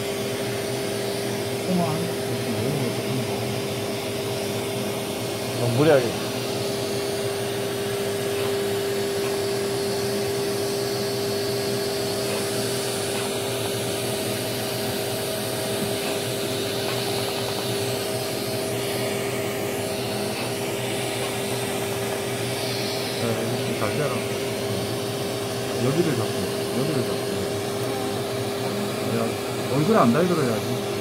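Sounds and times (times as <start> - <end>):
laser machine hum with tone: 0.0 - 31.0.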